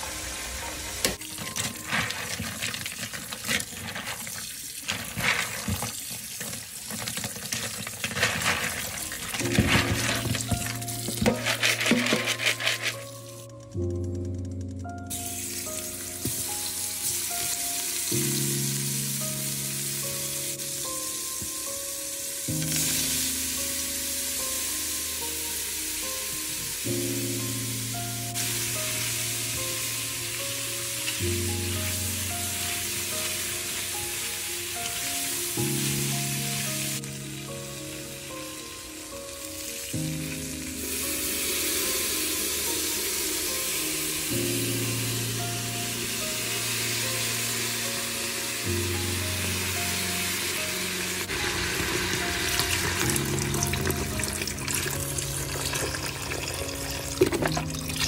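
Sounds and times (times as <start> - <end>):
slow chord background music: 0.0 - 2.6, 8.2 - 58.0
bacon sizzling in a pot: 0.0 - 13.5, 15.1 - 58.0.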